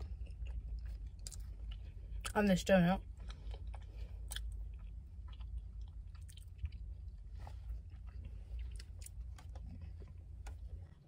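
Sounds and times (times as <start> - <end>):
person chewing donut: 0.0 - 2.4, 3.0 - 11.0
car interior low hum: 0.0 - 11.0.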